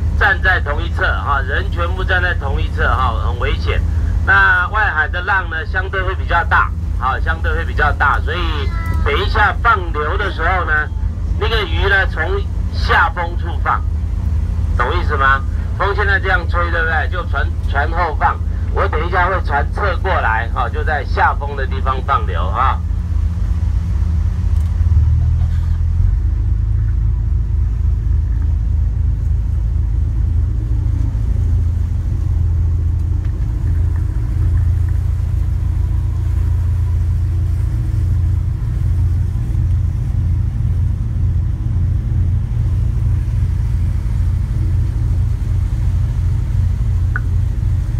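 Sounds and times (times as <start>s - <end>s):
boat engine rumbling: 0.0s - 47.9s.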